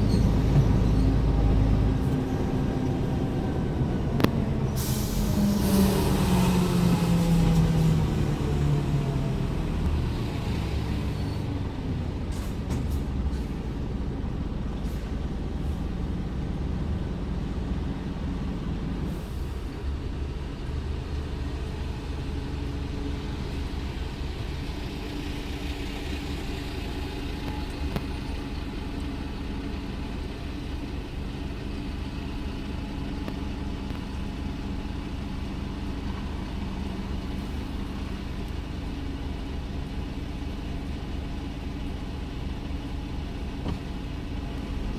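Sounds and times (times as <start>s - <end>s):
road noise: 0.0s - 44.9s
truck diesel engine running: 0.0s - 44.9s.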